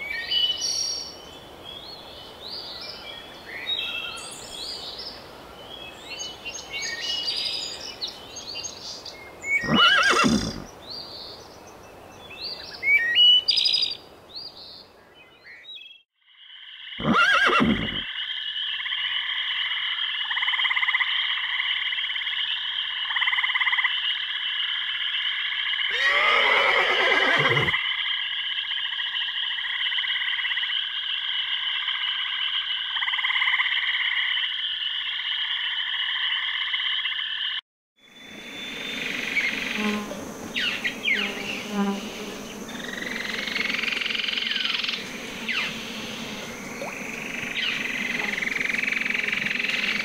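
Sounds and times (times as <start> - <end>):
frogs and insects trilling: 0.0 - 11.2, 15.0 - 50.0.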